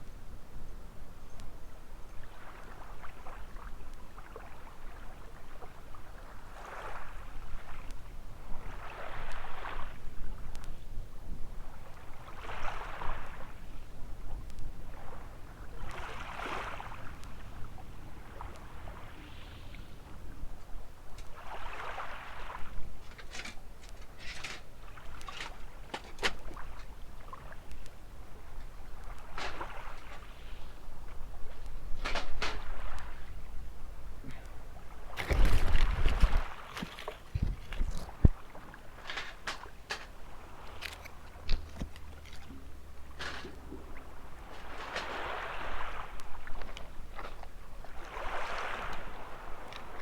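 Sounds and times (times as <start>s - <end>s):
wind rumble on microphone: 0.0s - 43.0s
small waves washing on shore: 2.2s - 50.0s.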